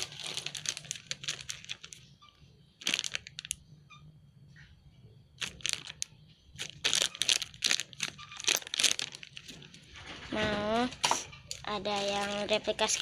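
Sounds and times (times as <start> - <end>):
plastic packaging crinkling: 0.0 - 2.2, 2.8 - 3.6, 5.4 - 13.0.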